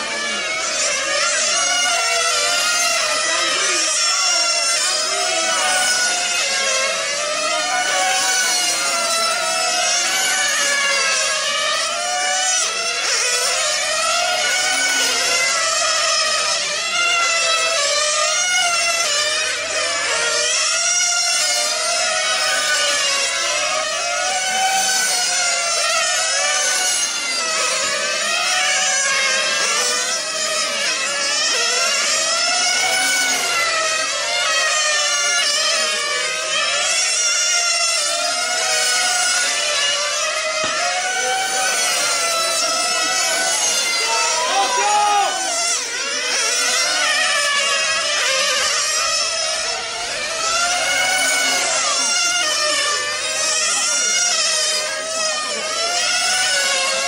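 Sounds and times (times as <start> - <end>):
rc car engines whining: 0.0 - 57.0.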